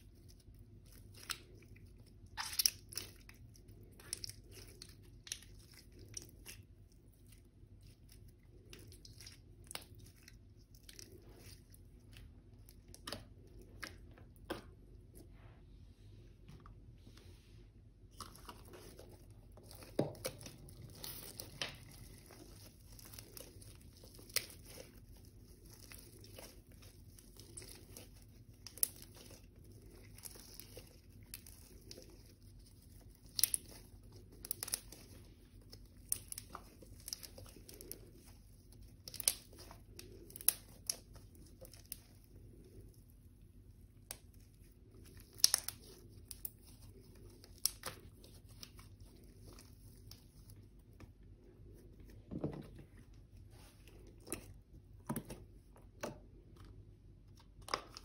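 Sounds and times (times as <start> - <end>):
slime crackling and popping: 0.0 - 14.8, 18.1 - 50.6.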